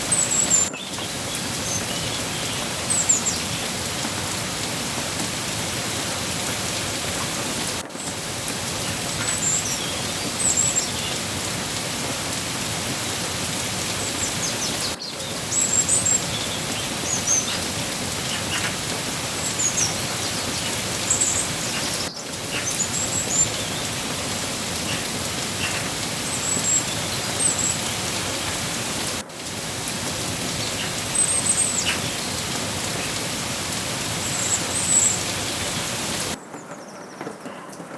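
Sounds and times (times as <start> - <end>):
steady rain falling: 0.0 - 36.6.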